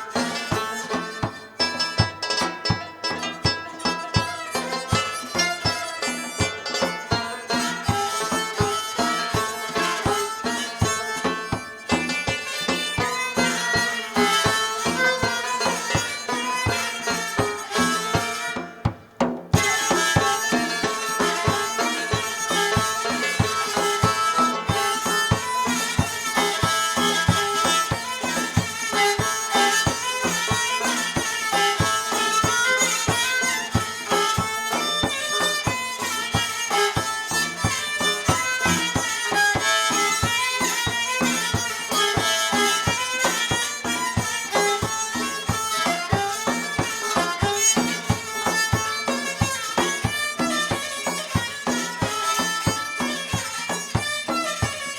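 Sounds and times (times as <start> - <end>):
fast traditional instrumental music: 0.0 - 54.9.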